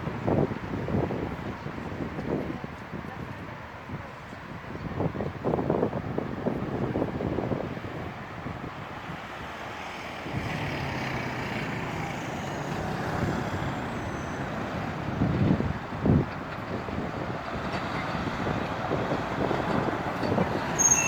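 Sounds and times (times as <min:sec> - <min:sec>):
road traffic passing: 0:00.0 - 0:21.0
stormy wind: 0:00.0 - 0:21.0
wind gusts hitting microphone: 0:00.0 - 0:21.0.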